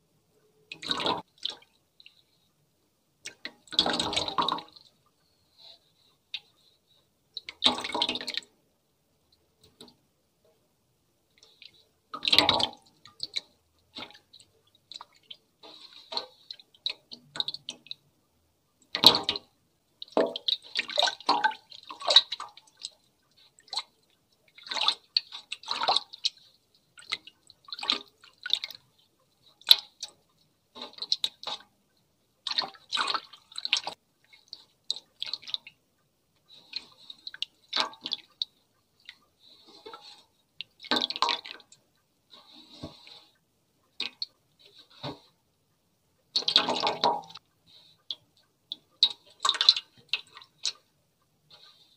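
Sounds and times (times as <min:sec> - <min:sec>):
wet watery noises: 0:00.7 - 0:02.6, 0:03.2 - 0:10.0, 0:11.3 - 0:45.6, 0:46.2 - 0:51.9.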